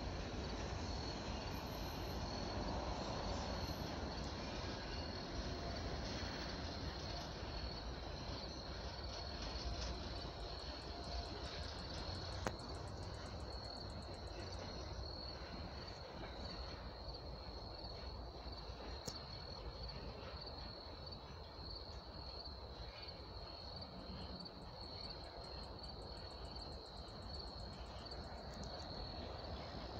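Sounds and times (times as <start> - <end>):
crickets chirping: 0.0 - 29.9
faint low train rumble: 0.0 - 29.9.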